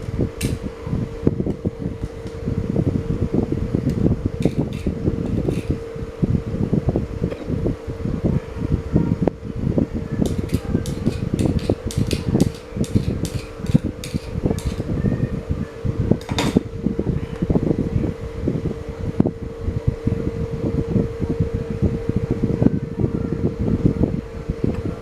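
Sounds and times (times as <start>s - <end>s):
air buffeting microphone: 0.0s - 25.0s
electric fan motor hum: 0.0s - 25.0s.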